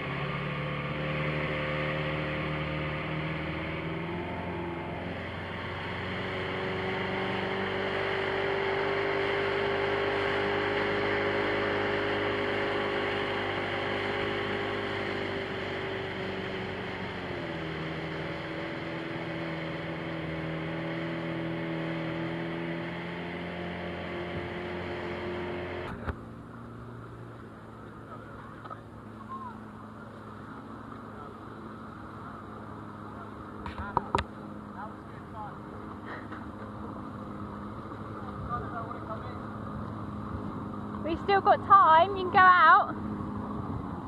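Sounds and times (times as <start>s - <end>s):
outboard motor running: 0.0s - 44.0s
water rushing: 0.0s - 44.0s
wind: 0.0s - 44.0s.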